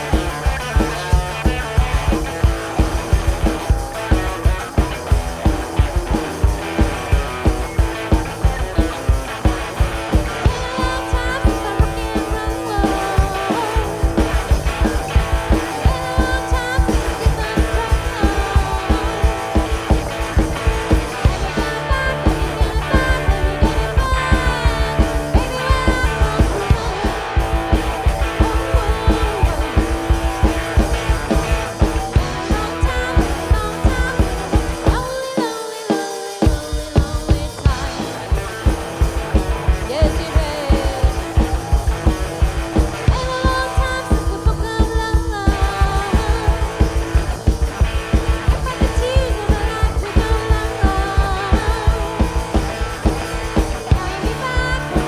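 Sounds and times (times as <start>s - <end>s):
bass guitar: 0.0s - 35.2s, 37.0s - 55.0s
lead electric guitar: 0.0s - 35.8s, 36.4s - 55.0s
drums beat: 0.0s - 55.0s.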